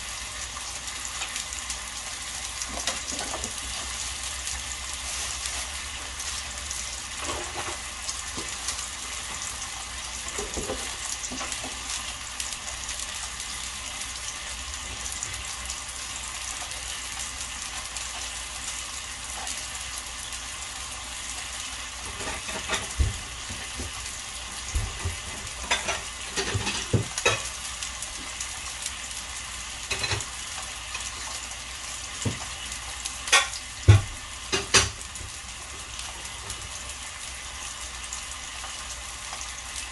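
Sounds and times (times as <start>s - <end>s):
steaks sizzling in grill pan: 0.0s - 39.9s.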